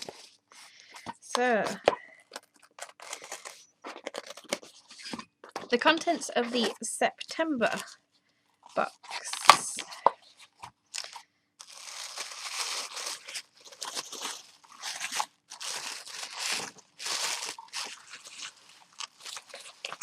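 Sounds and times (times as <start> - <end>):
packing material crinkling: 0.0 - 6.9, 8.7 - 20.0.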